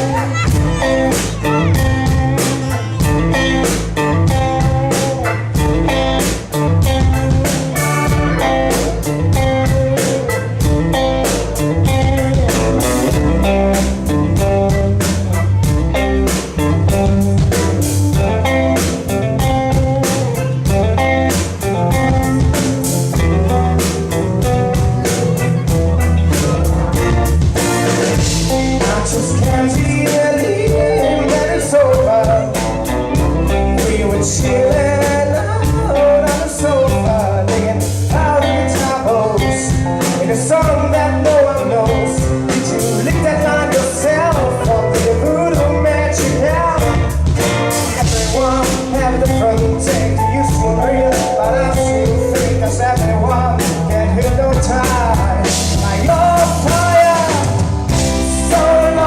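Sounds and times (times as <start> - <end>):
bass and guitar: 0.0 - 59.0
drum kit beat: 0.0 - 59.0
lead vocalist singing: 0.0 - 59.0.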